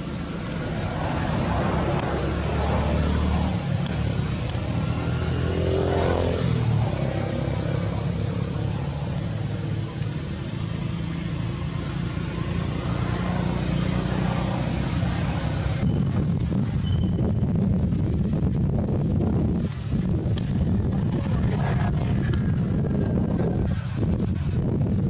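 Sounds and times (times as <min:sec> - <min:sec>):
motor engine humming: 0:00.0 - 0:25.0.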